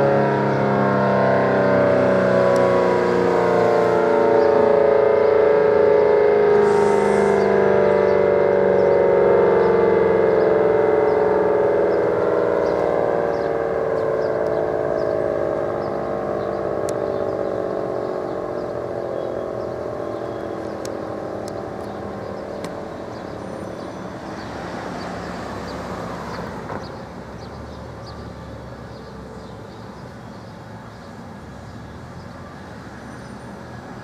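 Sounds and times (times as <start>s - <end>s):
siren winding down: 0.0s - 27.3s
road traffic noise: 0.0s - 34.0s.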